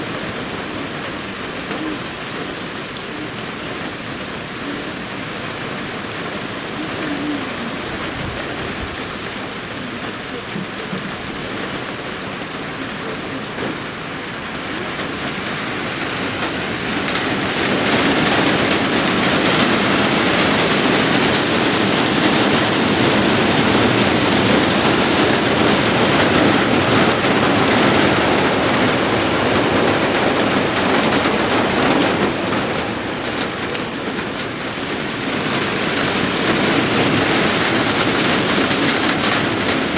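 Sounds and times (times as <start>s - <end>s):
rain downpour: 0.0s - 39.9s.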